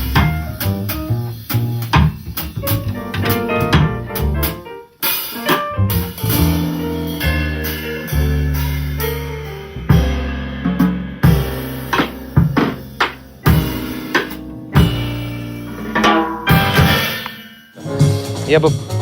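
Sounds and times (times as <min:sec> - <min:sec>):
double bass low notes: 0:00.0 - 0:04.7, 0:05.6 - 0:17.1
drum kit and cymbals: 0:00.0 - 0:19.0
piano: 0:00.0 - 0:19.0.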